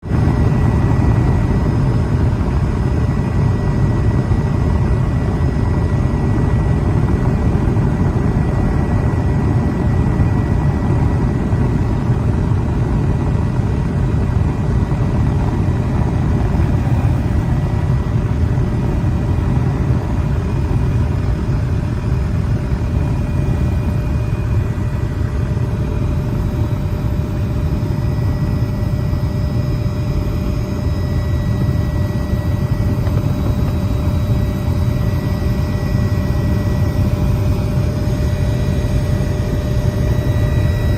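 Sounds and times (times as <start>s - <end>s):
aircraft droning in flight: 0.0s - 40.9s
faint steady whine: 0.1s - 40.9s.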